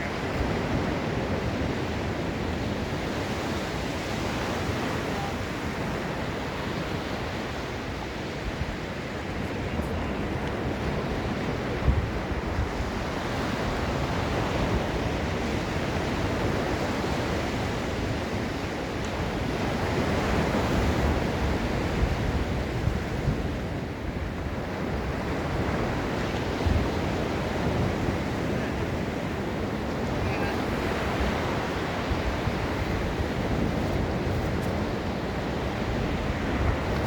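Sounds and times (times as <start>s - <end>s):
ocean surf washing onto beach: 0.0s - 37.0s
wind buffeting microphone: 0.0s - 37.0s.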